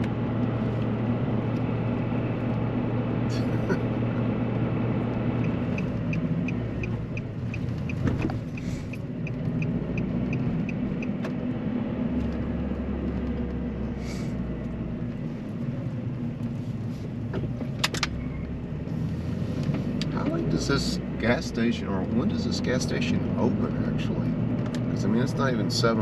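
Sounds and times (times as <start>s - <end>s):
engine and road hum: 0.0s - 26.0s.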